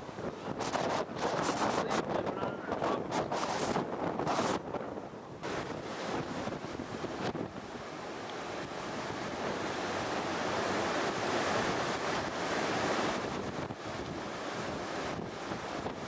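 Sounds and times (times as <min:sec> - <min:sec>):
surf breaking and rushing: 0:00.0 - 0:16.0
wind buffeting microphone: 0:00.0 - 0:16.0.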